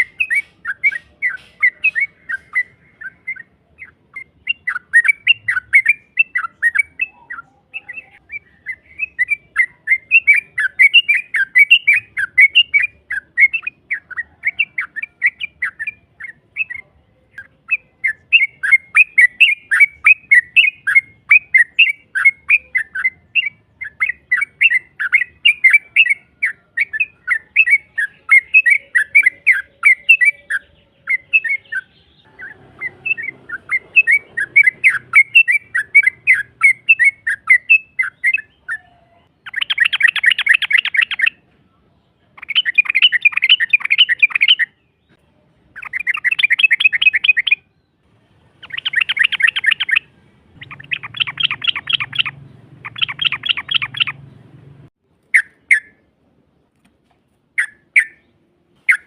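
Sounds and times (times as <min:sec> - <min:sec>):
bird singing chattering notes: 0:00.0 - 0:41.5, 0:42.3 - 0:56.1, 0:57.5 - 0:59.0.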